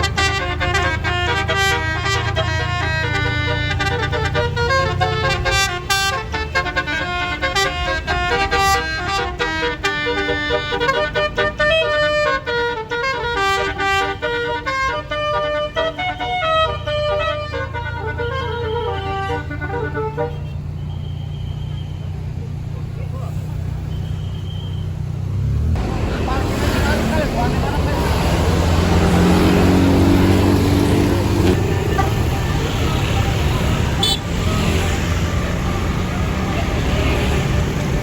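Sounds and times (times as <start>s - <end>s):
bus horn playing a fast tune: 0.0s - 22.6s, 25.8s - 38.0s.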